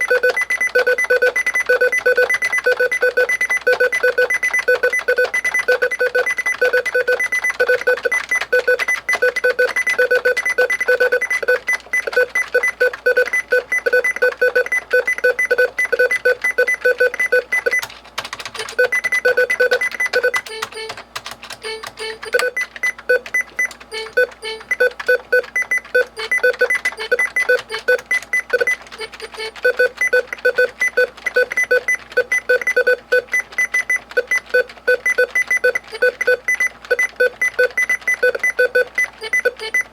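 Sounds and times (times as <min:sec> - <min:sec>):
clicks: 0:00.0 - 0:39.9.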